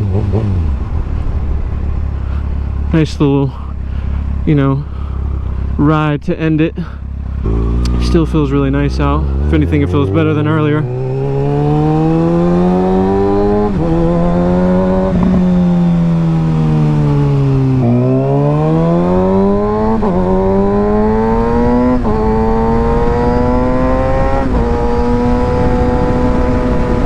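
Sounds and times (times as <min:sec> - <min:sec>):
motorcycle engine upshifting: 0:00.0 - 0:03.0, 0:06.6 - 0:27.0.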